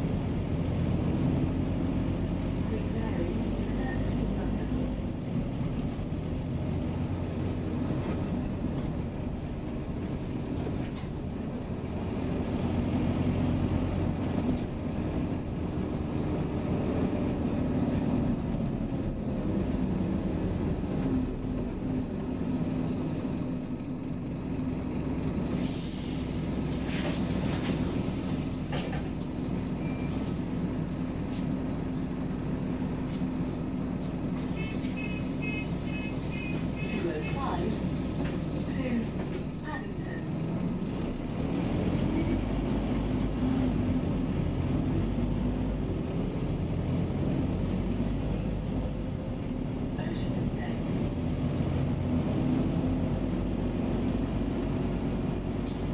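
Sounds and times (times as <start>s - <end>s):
bus engine droning: 0.0s - 55.9s.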